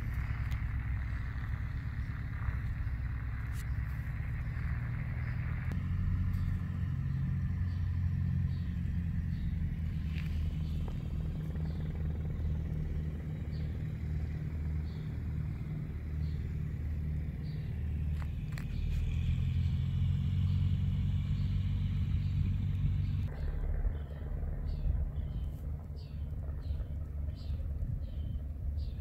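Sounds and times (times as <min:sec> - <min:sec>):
engine rumble: 0:00.0 - 0:29.0.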